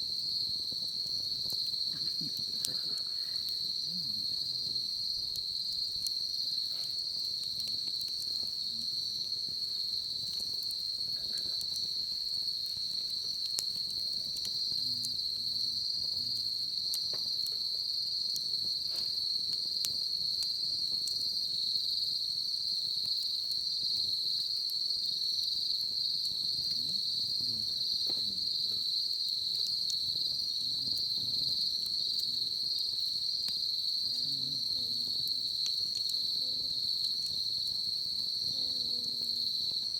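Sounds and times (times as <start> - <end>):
insects trilling: 0.0 - 39.9
wood fire crackling: 0.0 - 39.9.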